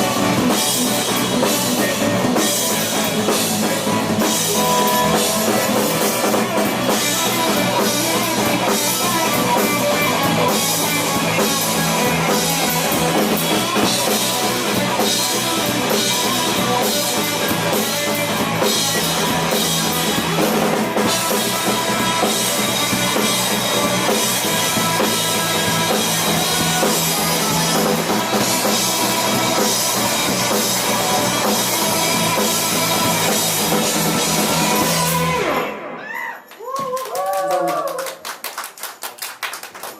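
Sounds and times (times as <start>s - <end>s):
rock band playing instrumental: 0.0s - 36.1s.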